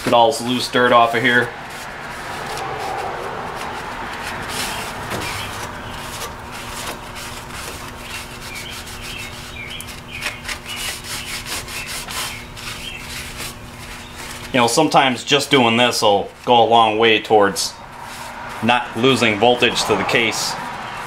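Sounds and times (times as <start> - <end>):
paper towel scrubbing plastic: 0.0 - 21.0.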